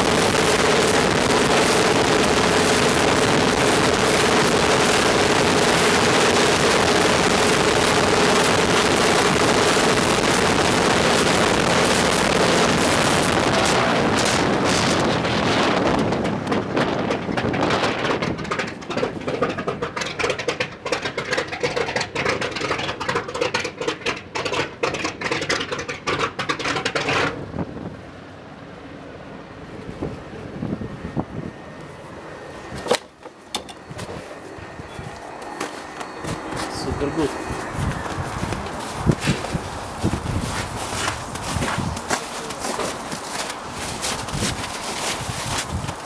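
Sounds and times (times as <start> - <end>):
radial aircraft engine running: 0.0 - 46.0.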